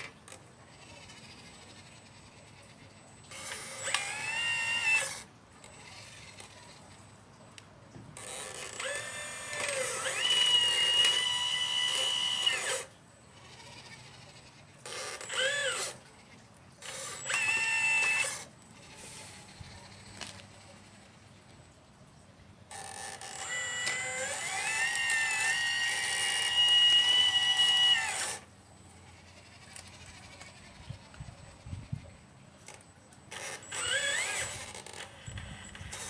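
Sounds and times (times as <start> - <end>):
toy excavator electric motors whining: 0.0 - 36.0.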